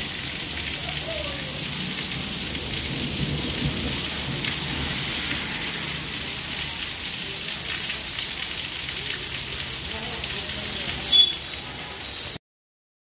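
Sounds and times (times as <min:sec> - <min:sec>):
heavy rain on pavement: 0:00.0 - 0:12.4.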